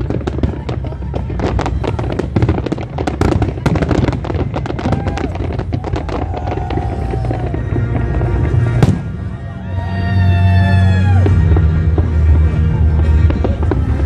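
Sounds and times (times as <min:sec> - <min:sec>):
fireworks bursting and crackling: 0:00.0 - 0:14.0
steady low rumble: 0:00.0 - 0:14.0.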